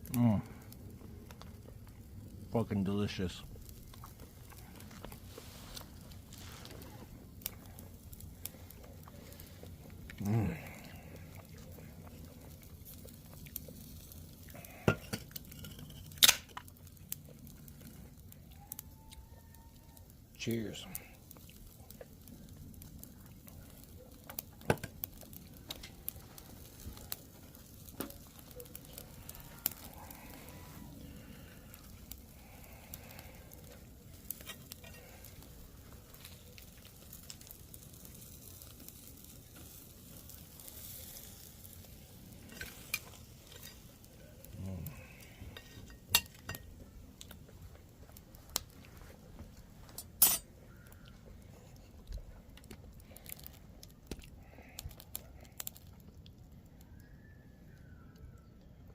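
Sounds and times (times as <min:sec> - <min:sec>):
food sizzling on a grill: 0:00.0 - 0:47.4, 0:49.8 - 0:51.0, 0:54.5 - 0:55.8.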